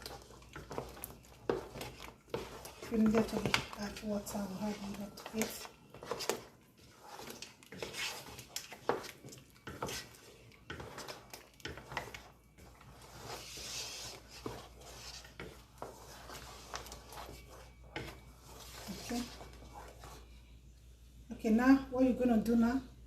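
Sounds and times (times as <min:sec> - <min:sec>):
spoon scraping and knocking pot: 0:00.0 - 0:20.3
wooden spoon stirring thick soup: 0:00.0 - 0:22.6.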